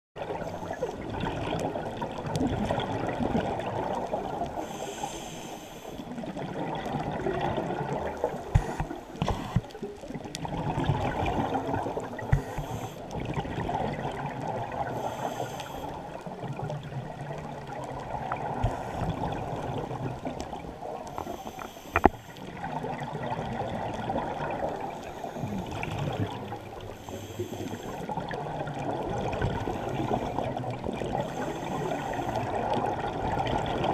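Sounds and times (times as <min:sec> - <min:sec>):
exhaled bubbles underwater: 0:00.2 - 0:33.9.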